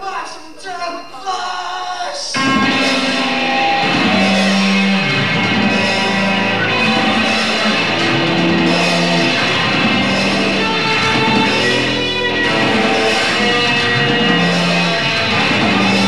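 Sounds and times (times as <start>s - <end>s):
punk rock band with electric guitar: 2.4s - 16.0s.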